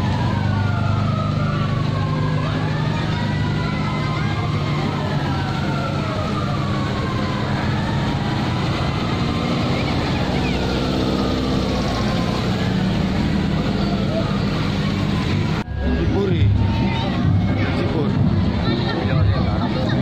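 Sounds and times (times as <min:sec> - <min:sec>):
passing vehicle engines: 0:00.0 - 0:20.0
sirens wailing: 0:00.0 - 0:20.0.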